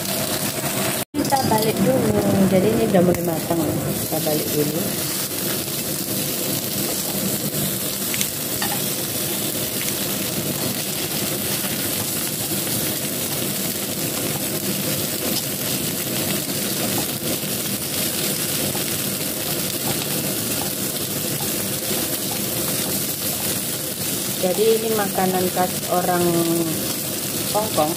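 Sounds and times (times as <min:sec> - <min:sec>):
turnip cake sizzling in a pan: 0:00.0 - 0:27.9.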